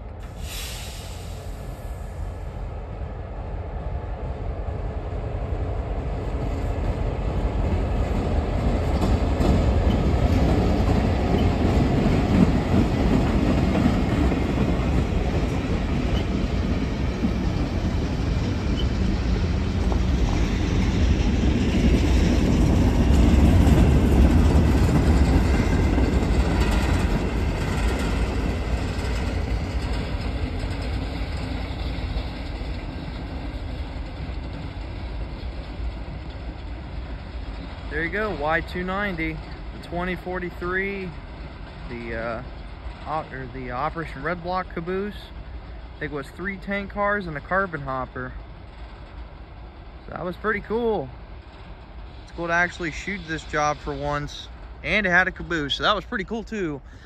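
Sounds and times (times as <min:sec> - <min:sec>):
diesel locomotive rumbling: 0:00.0 - 0:57.0
train wheels clicking over rail joints: 0:06.4 - 0:56.0.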